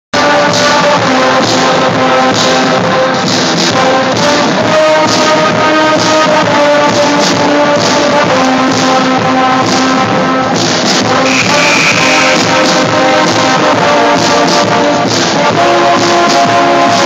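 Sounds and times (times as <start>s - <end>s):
brass instruments: 0.1s - 17.0s
drums and cymbals beat: 0.2s - 17.0s.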